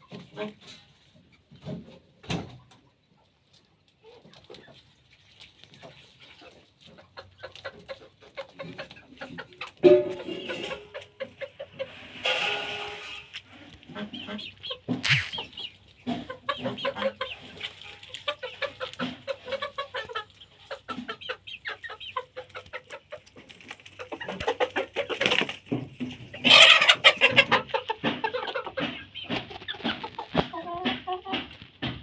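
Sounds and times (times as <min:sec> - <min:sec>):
chickens clucking: 0:00.0 - 0:32.0
chickens squawking: 0:04.0 - 0:31.6.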